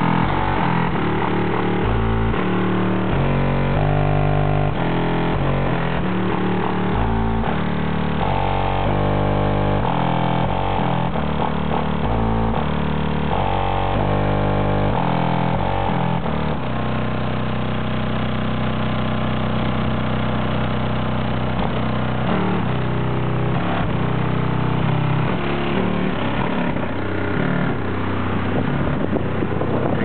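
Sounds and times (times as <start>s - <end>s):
muffled bass-heavy music from subwoofers: 0.0s - 30.0s.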